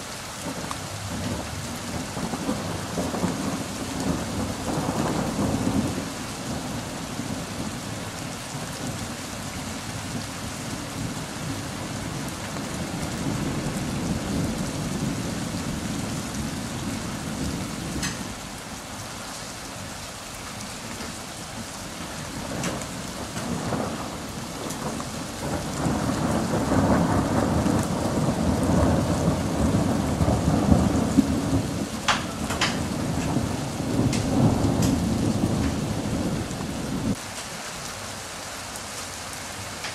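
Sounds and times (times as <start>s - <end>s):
steady rain: 0.0s - 39.9s
thunder rumbling: 0.4s - 18.6s, 21.0s - 37.2s.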